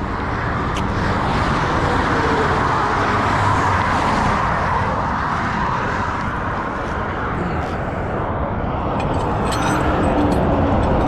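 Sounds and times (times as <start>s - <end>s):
freeway traffic rushing past: 0.0s - 11.0s.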